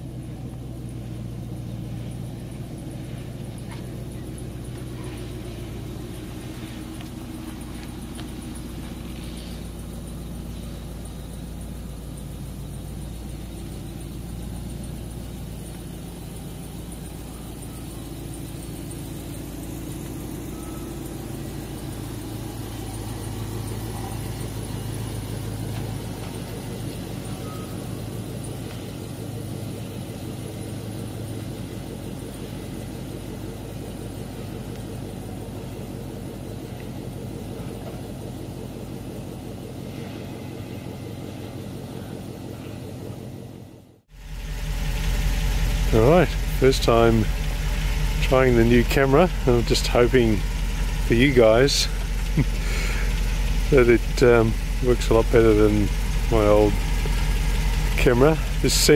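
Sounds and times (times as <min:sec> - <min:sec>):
truck engine idling: 0:00.0 - 0:58.9.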